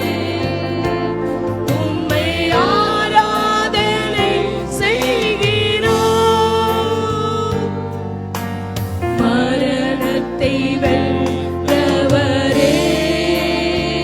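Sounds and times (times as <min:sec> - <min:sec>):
person singing worship song: 0:00.0 - 0:08.4, 0:09.0 - 0:14.0
instrumental backing: 0:00.0 - 0:14.0.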